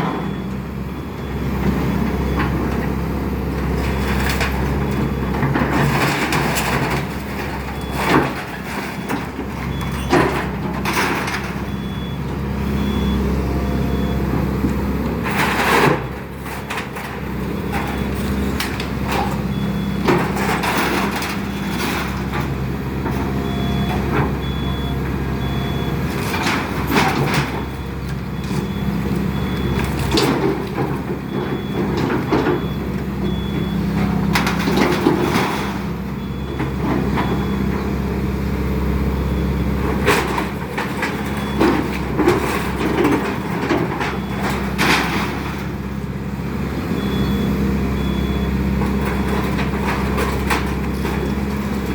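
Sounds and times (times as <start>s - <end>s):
diesel excavator running: 0.0s - 51.9s.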